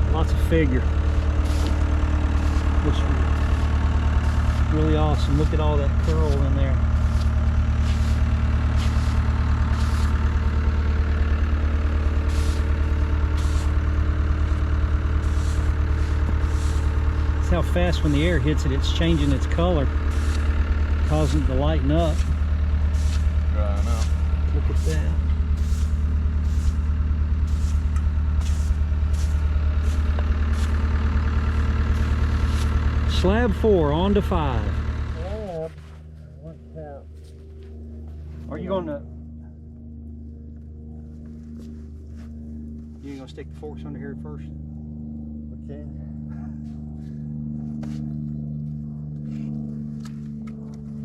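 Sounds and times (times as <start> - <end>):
motor idling with low hum: 0.0 - 51.0.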